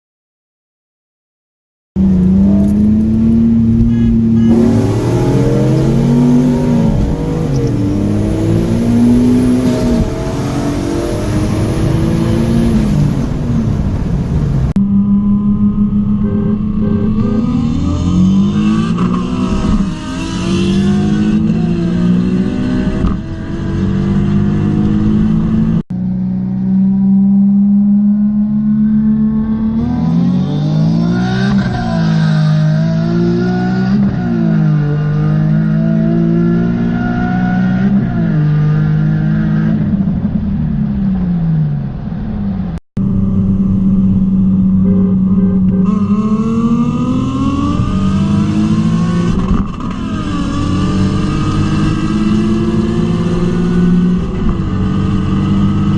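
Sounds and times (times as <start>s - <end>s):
car engine accelerating hard: 2.0s - 40.4s, 43.0s - 55.9s.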